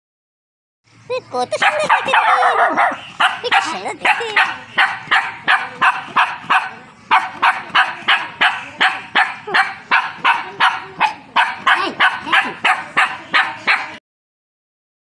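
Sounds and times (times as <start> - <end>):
dog barking: 1.6 - 14.0.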